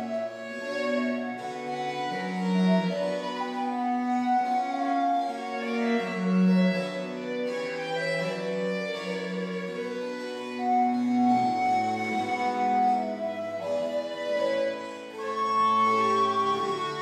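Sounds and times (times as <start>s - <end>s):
cello: 0.0s - 17.0s
harpsichord: 0.0s - 17.0s
violin melody: 0.0s - 17.0s.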